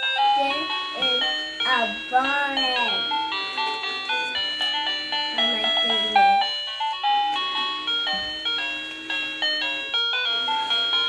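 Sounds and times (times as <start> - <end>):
toy speaker electronic tune: 0.0 - 11.0.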